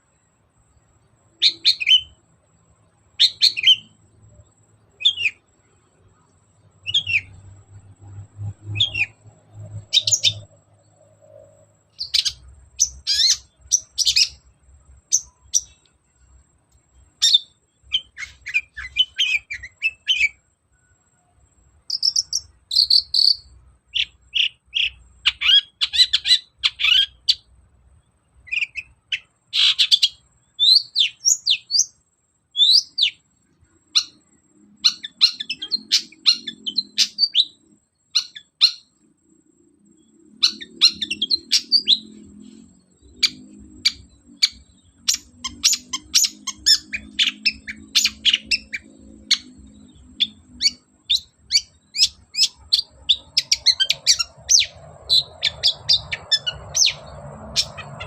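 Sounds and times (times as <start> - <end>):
bird singing chattering and whistling: 1.3 - 2.2, 3.2 - 5.5, 6.8 - 15.9, 17.0 - 20.9, 21.9 - 27.5, 28.4 - 32.0, 32.6 - 33.3, 33.9 - 39.0, 40.0 - 58.0.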